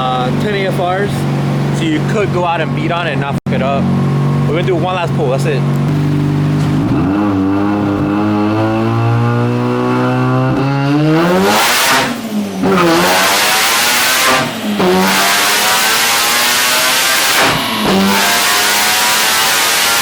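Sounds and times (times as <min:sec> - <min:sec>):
rotary engine roaring under load: 0:00.0 - 0:20.0.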